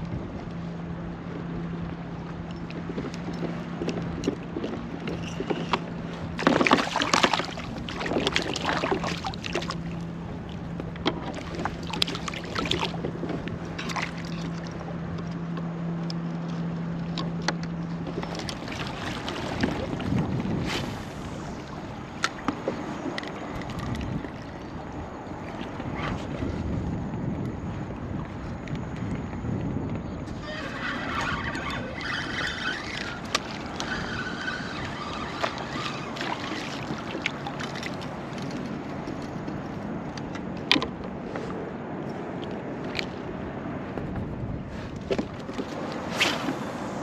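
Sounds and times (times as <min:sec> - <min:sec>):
knocks and rustles in kayak: 0:00.0 - 0:47.0
water lapping on hull: 0:00.0 - 0:47.0
wind: 0:00.0 - 0:47.0.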